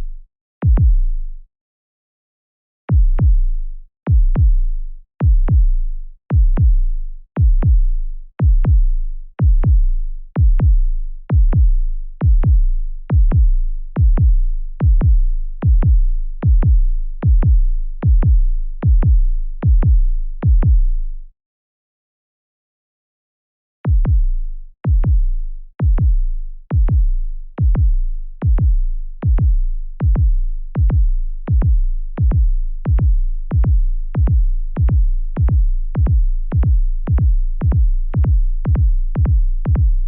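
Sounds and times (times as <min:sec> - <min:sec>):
deep electronic kick drum thumps: 0:00.6 - 0:01.2, 0:02.9 - 0:21.0, 0:23.9 - 0:40.0.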